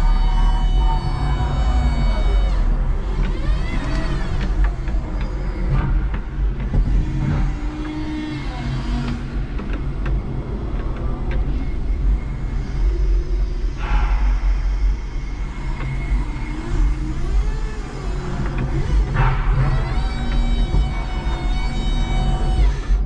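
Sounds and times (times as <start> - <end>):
electric forklift motor hum: 0.0 - 14.0, 15.0 - 23.0.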